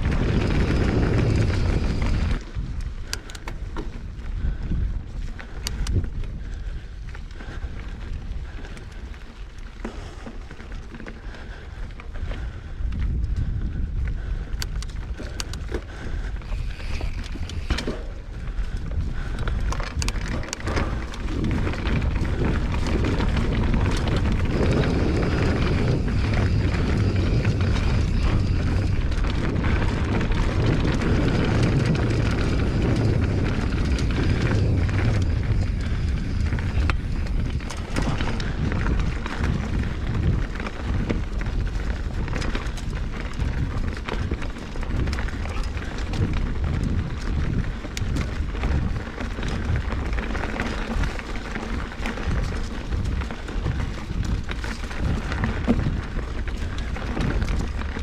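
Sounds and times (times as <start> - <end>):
wind on microphone: 0.0 - 9.2, 11.3 - 58.0
bike clicks and rattles: 0.0 - 58.0
bike tyre rumble on dirt: 0.0 - 58.0.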